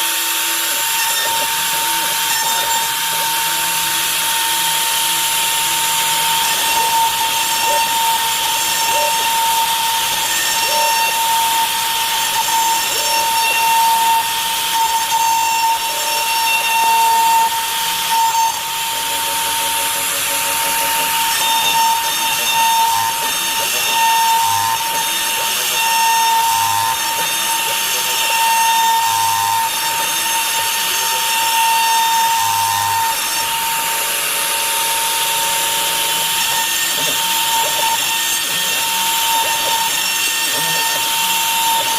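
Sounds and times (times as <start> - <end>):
router spindle high whine: 0.0 - 41.9.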